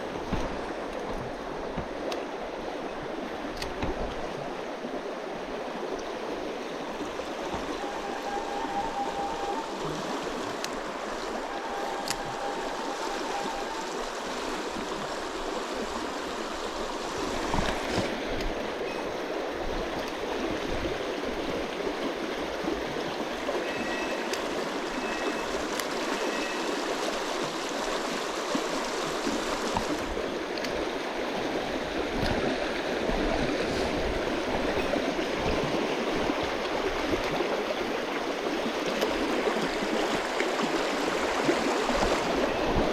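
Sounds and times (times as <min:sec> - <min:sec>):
stream running: 0:00.0 - 0:42.9.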